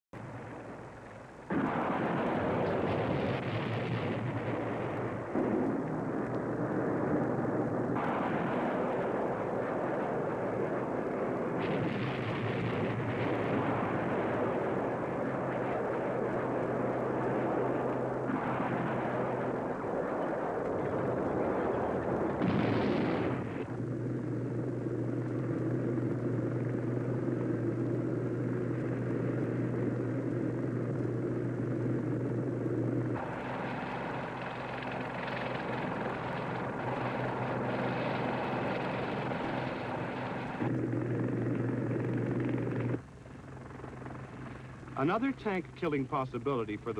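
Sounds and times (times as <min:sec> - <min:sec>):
helicopter and armoured vehicle rumble: 0:00.2 - 0:46.9.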